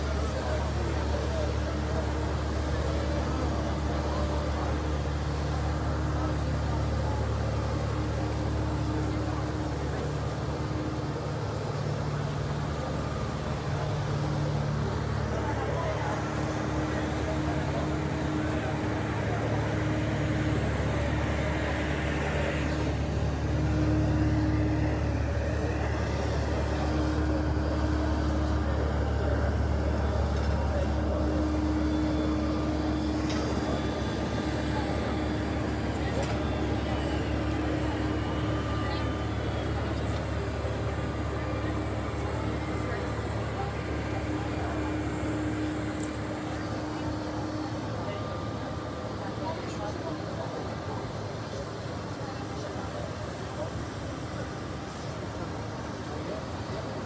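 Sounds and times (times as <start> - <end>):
airport tug driving past: 0.0 - 57.0
constant rushing noise: 0.0 - 57.0
jet engines running while taxiing: 0.0 - 57.0.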